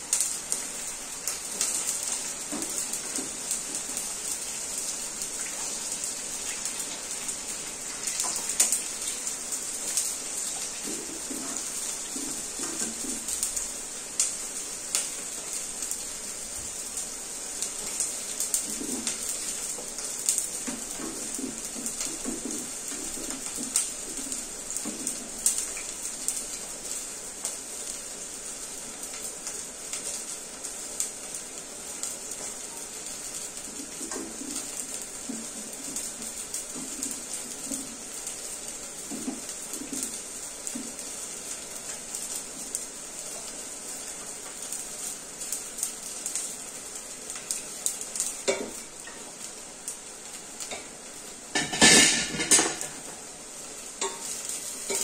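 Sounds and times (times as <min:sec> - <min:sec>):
beans frying in hot oil: 0:00.0 - 0:55.0.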